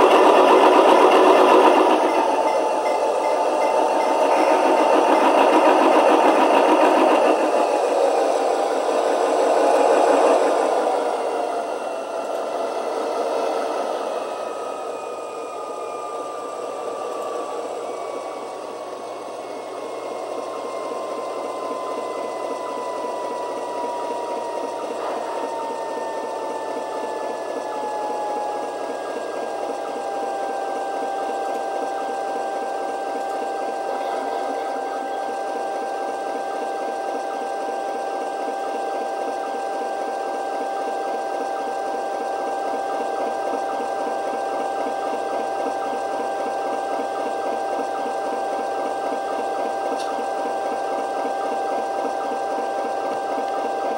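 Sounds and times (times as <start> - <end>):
diesel engine chug through small speaker: 0.0 - 53.9
high turbocharger whine: 0.0 - 53.9.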